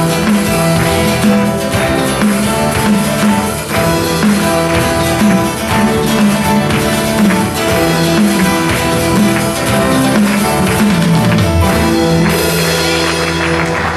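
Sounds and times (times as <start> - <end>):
drums: 0.0 - 13.9
electric guitar: 0.0 - 13.9
keyboard: 0.0 - 13.9
strummed acoustic guitar: 0.0 - 13.9.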